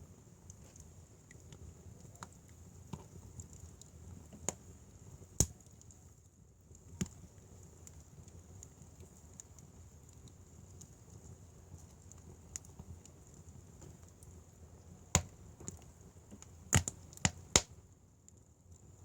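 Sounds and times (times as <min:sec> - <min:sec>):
fire crackling pops: 0:00.4 - 0:18.8.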